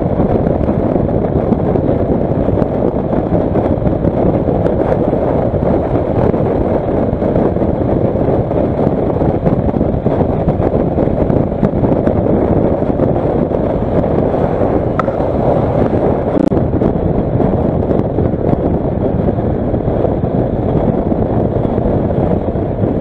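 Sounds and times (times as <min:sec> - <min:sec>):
motorcycle road and engine noise: 0:00.0 - 0:23.0
wind buffeting microphone: 0:00.0 - 0:23.0.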